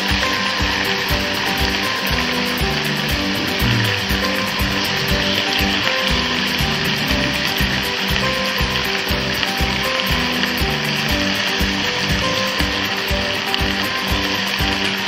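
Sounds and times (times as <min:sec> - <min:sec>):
background music with beat: 0:00.0 - 0:15.0
steak sizzling on grill: 0:00.0 - 0:15.0.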